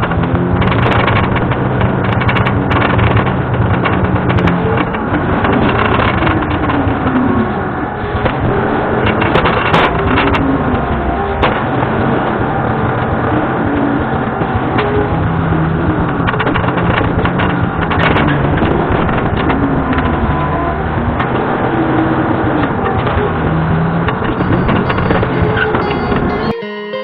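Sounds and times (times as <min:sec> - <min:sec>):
diesel engine working under load: 0:00.0 - 0:26.6.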